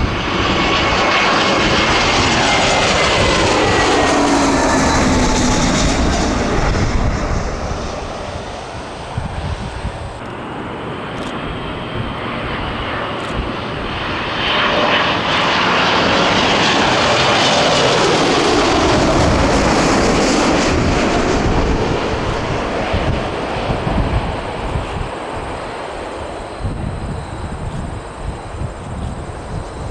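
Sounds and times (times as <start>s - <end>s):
jet engine whine falling in pitch: 0.0s - 29.9s
jet engines roaring overhead: 0.0s - 29.9s.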